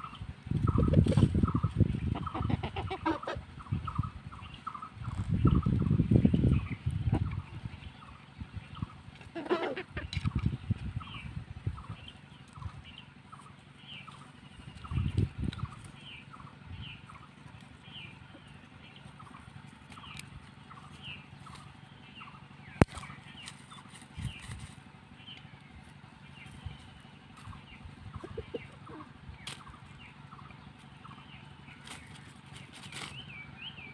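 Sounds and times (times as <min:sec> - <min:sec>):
small bird chirping: 0:00.0 - 0:33.9.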